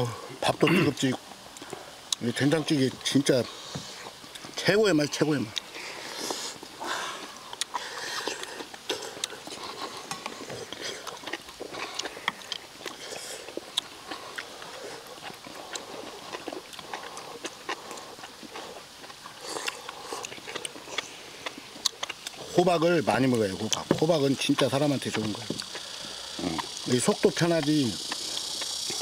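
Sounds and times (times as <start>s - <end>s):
people chewing and slurping: 0.0s - 29.0s.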